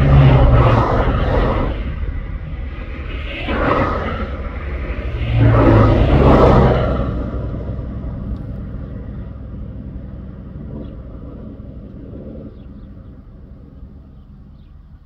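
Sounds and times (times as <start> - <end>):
vehicle passing by: 0.0 - 15.0.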